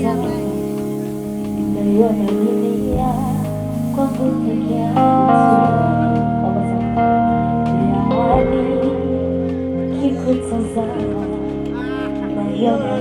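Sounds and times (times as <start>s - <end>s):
guitar and sustained chords: 0.0s - 13.0s.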